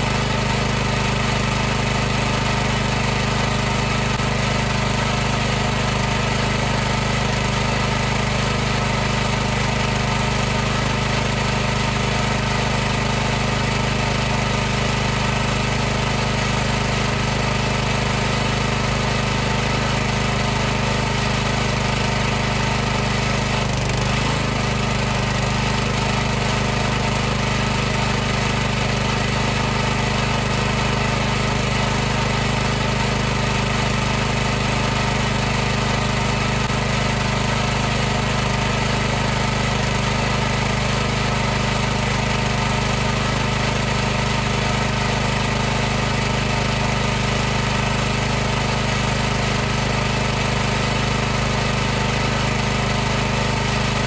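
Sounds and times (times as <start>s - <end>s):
pressure washer pump running: 0.0s - 54.0s.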